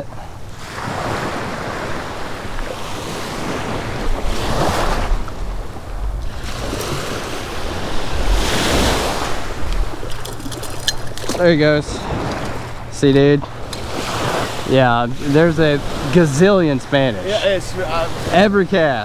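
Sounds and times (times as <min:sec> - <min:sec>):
small waves breaking on beach: 0:00.0 - 0:10.8, 0:11.4 - 0:19.0
wind rumbling on microphone: 0:00.0 - 0:18.4.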